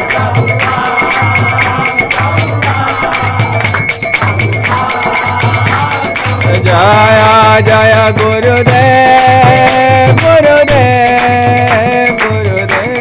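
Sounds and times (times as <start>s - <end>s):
metal hand percussion jangling: 0.0s - 13.0s
pulsing drum: 0.0s - 13.0s
voices chanting: 0.0s - 13.0s.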